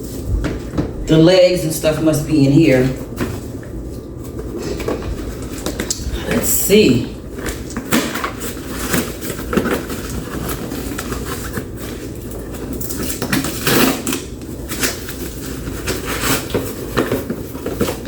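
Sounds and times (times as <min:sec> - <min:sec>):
packaging rustling: 0:02.8 - 0:06.6, 0:07.2 - 0:18.0.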